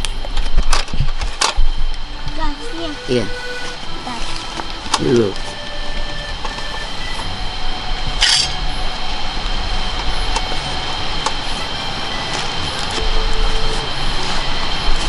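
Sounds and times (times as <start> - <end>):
constant high tone: 0.0 - 15.0
gas stove hiss: 0.0 - 15.0
noisy background: 0.0 - 15.0.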